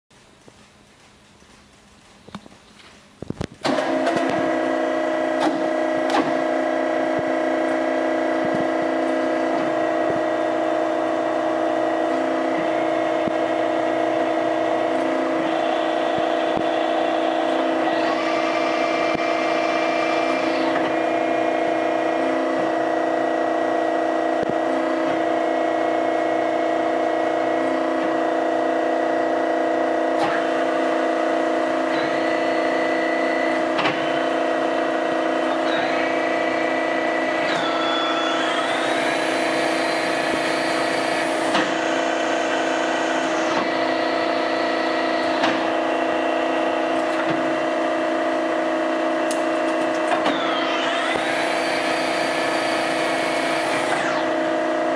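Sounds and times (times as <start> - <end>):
higher machine whine: 3.2 - 54.9
lathe motor humming and whining: 3.7 - 54.9.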